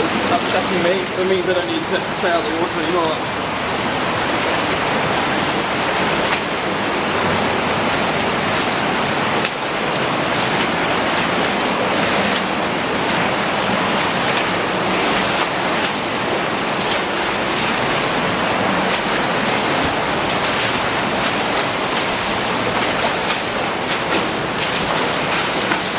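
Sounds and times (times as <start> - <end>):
person wading through water: 0.0 - 25.9
water rushing: 0.0 - 25.9.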